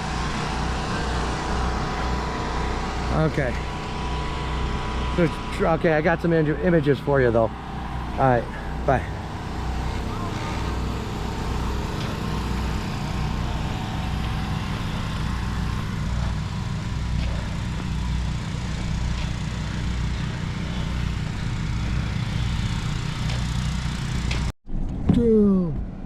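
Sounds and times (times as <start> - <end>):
engine running with low rumble: 0.0 - 26.0.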